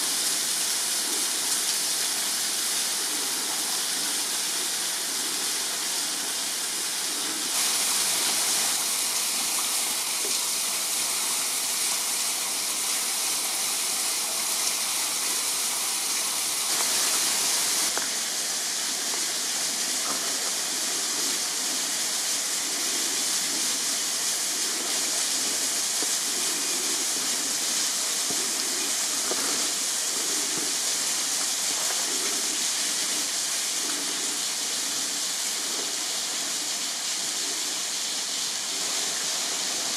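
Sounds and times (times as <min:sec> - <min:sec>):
waterfall splashing onto rocks: 0:00.0 - 0:39.9.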